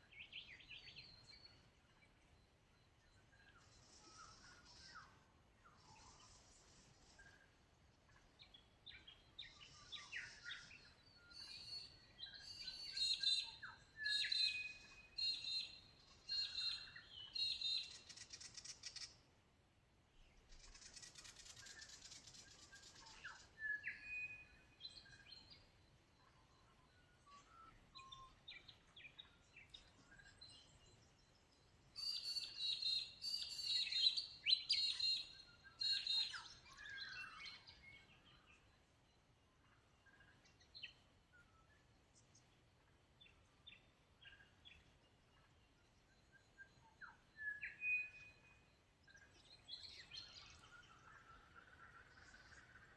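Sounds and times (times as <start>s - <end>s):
birds chirping and trilling: 0.0s - 19.4s, 20.2s - 52.9s.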